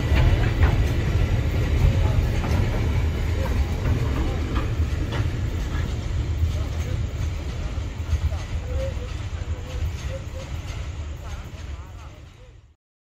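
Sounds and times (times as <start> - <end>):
steel wheels rumbling on rail: 0.0 - 12.8.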